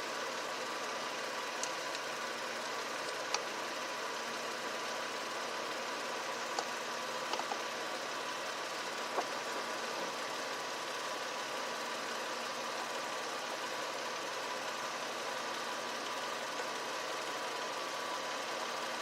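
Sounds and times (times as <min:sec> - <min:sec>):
engine-like running hum: 0:00.0 - 0:19.0.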